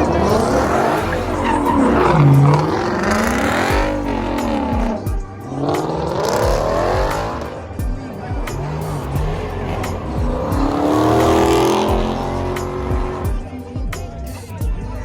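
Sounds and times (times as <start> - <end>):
car tyres squealing: 0.0 - 13.4
car engines running: 0.0 - 15.0.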